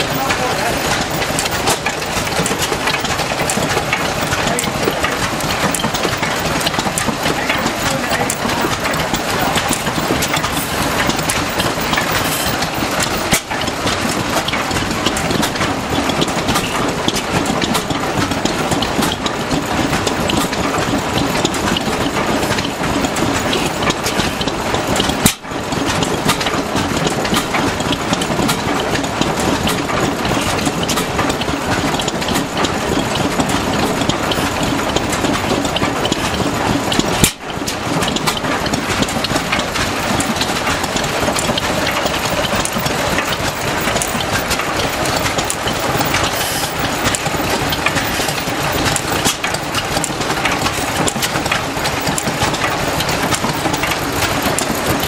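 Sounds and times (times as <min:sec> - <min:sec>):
stationary engines running: 0:00.0 - 0:55.0.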